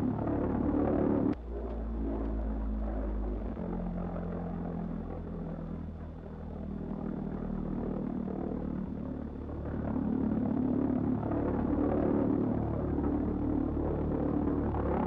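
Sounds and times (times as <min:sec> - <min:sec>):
pulse-jet engine droning buzz: 0:00.0 - 0:15.0.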